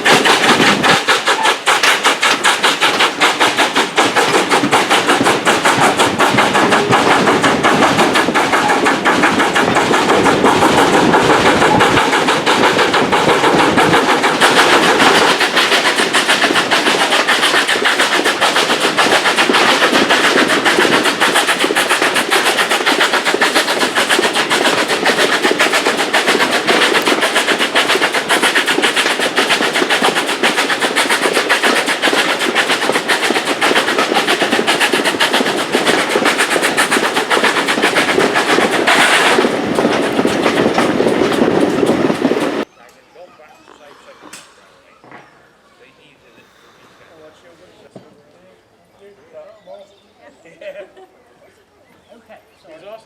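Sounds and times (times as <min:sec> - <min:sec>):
train clattering: 0:00.0 - 0:42.7.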